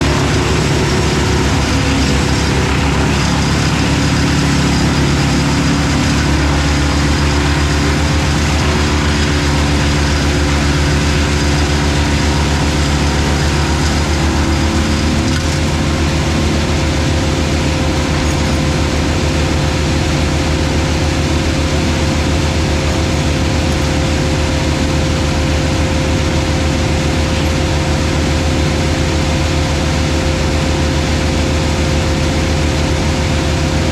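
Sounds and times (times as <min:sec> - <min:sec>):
excavator engine running: 0:00.0 - 0:33.9
steady hum: 0:00.0 - 0:33.9
wood chipper working: 0:00.0 - 0:33.9.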